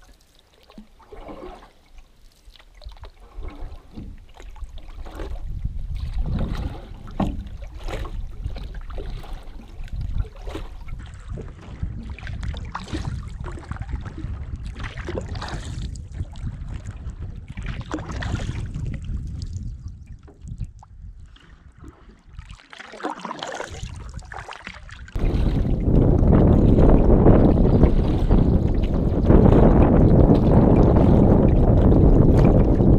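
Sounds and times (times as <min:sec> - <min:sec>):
paddle strokes and drips: 0:00.0 - 0:32.9
water lapping against canoe hull: 0:00.0 - 0:32.9
wind buffeting microphone: 0:03.4 - 0:22.4, 0:23.7 - 0:32.9.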